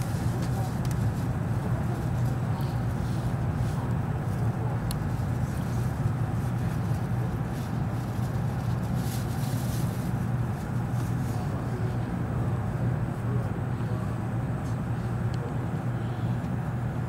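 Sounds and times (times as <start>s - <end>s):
train hum and rumble: 0.0s - 17.0s.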